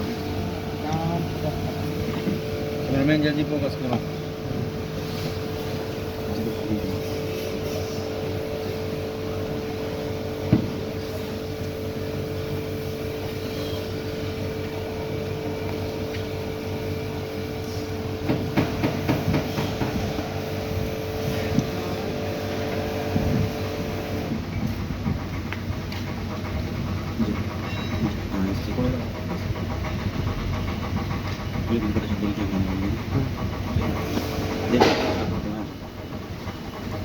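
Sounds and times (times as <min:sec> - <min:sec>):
machine humming: 0:00.0 - 0:37.0.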